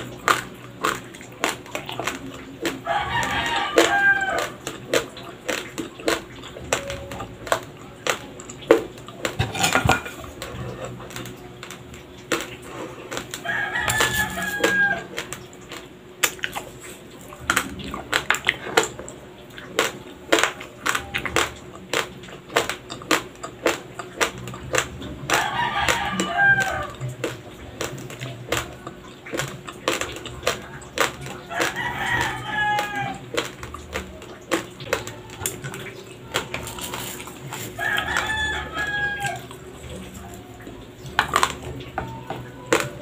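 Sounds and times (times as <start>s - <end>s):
chewing crunchy raw rice: 0.0s - 43.0s.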